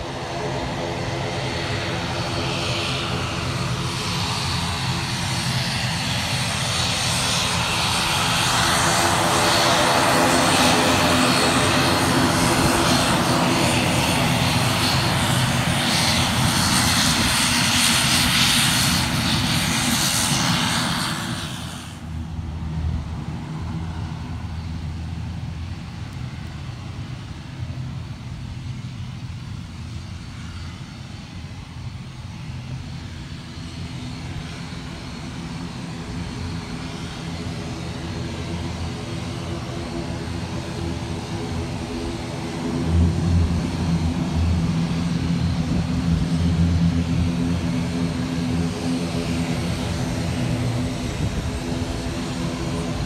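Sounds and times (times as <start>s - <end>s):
turboprop aircraft taxiing: 0.0s - 53.0s.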